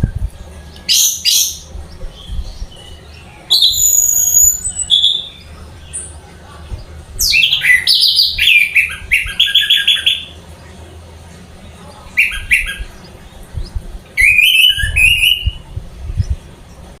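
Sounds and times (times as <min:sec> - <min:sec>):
thrush singing: 0:00.0 - 0:17.0.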